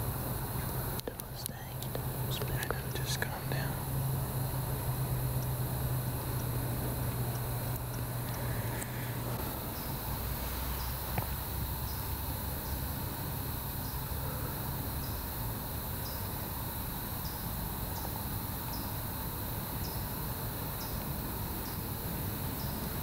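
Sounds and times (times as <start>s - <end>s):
cricket chirping: 0.0s - 23.0s
low rumble and hiss: 0.0s - 23.0s.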